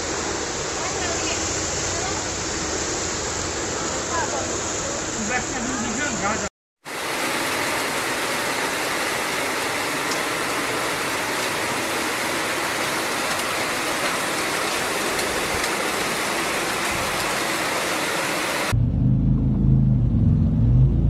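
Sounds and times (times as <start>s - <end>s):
heavy rain falling: 0.0s - 18.8s.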